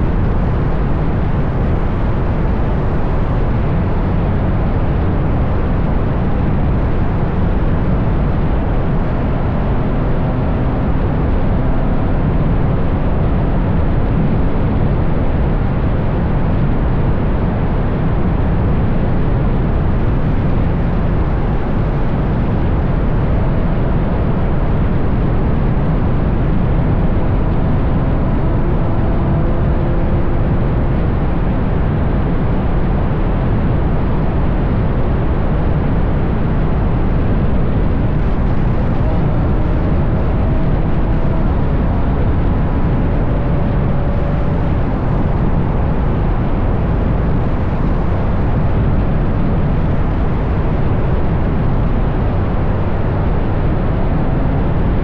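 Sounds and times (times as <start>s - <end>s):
faint engine drone: 0.0s - 55.0s
wind buffeting: 0.0s - 55.0s.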